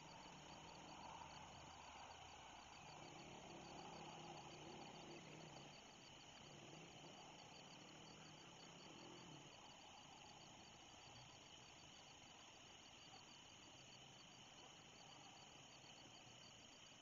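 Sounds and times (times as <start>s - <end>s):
crickets trilling: 0.0s - 17.0s
faint low hum: 0.0s - 17.0s.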